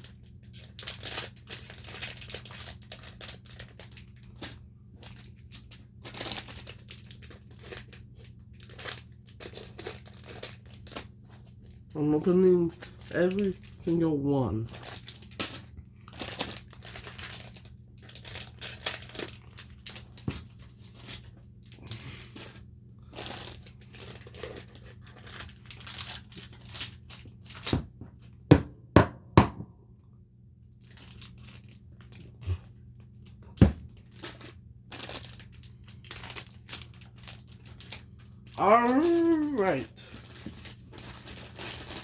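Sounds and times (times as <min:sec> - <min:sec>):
packs being torn open: 0:00.0 - 0:13.9, 0:14.7 - 0:27.8, 0:30.8 - 0:42.0
wrappers crinkling: 0:00.0 - 0:28.4, 0:30.8 - 0:42.0.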